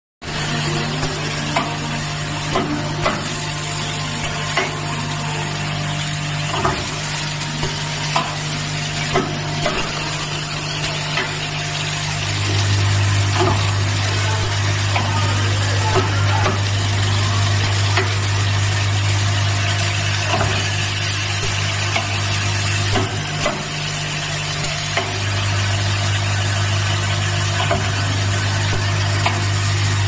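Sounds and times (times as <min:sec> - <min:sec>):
crimping machine humming: 0:00.2 - 0:30.0.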